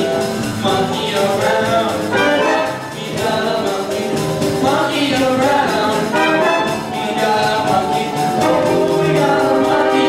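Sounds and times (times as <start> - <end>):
group singing: 0.0 - 10.0
instrumental accompaniment with beat: 0.0 - 10.0.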